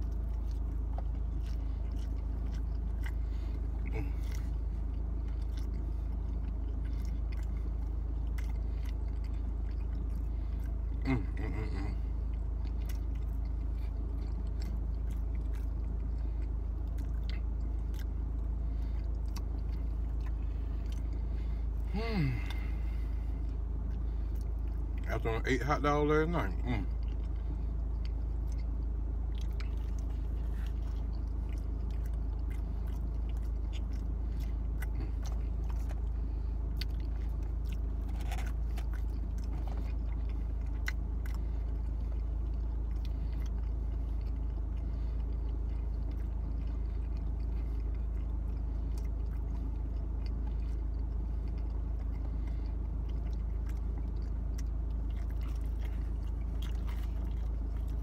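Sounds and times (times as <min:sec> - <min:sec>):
pizza chewing: 0:00.0 - 0:58.0.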